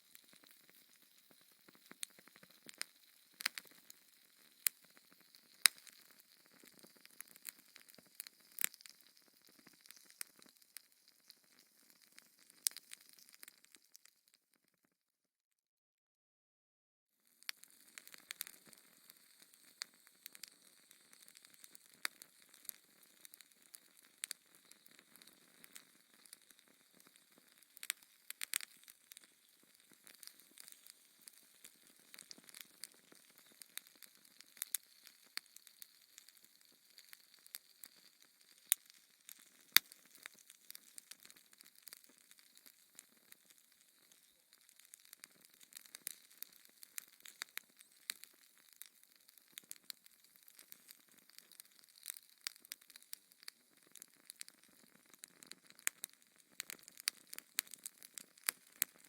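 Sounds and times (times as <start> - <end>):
wood fire crackling: 0.0 - 14.1, 17.4 - 59.0.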